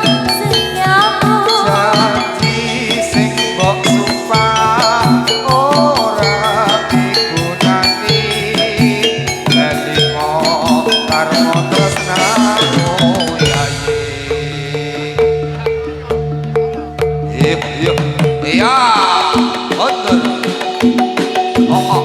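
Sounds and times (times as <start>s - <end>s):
ringing metallophone notes: 0.0s - 22.0s
wavering high melody: 0.0s - 22.0s.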